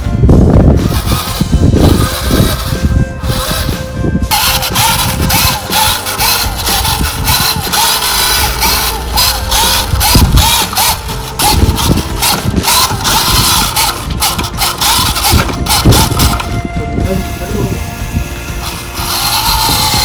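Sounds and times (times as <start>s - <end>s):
electric gear motors whining: 0.0s - 20.0s
rapid gear clicking: 0.6s - 20.0s.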